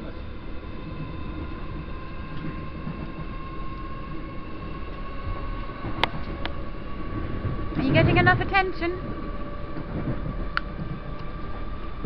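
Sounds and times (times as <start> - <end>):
train interior rumble: 0.0 - 12.0.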